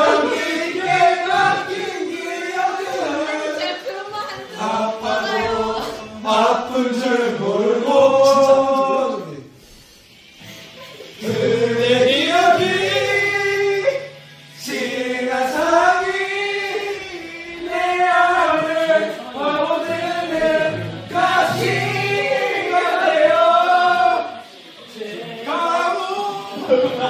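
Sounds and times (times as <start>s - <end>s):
group of people singing: 0.0s - 27.0s.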